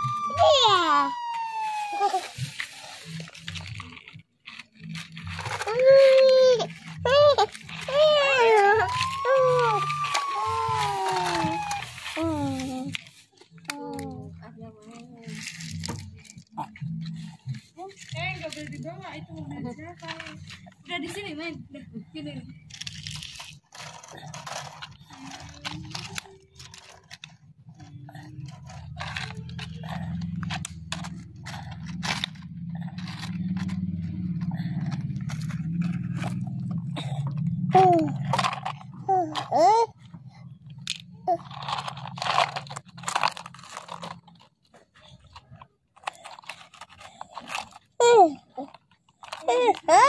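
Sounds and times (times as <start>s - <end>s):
toy trucks crunching over gravel: 0.0s - 21.6s, 22.2s - 50.0s.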